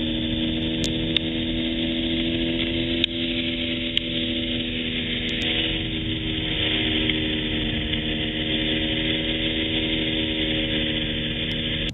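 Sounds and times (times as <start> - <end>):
propeller plane cabin drone: 0.0 - 11.9.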